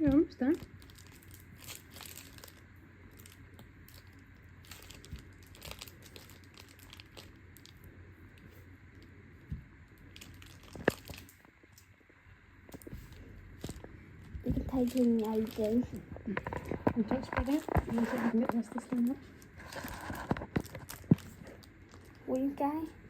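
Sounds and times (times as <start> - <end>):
plastic packet crinkling: 0.5 - 9.1, 9.9 - 11.9, 12.7 - 13.9, 14.5 - 22.5.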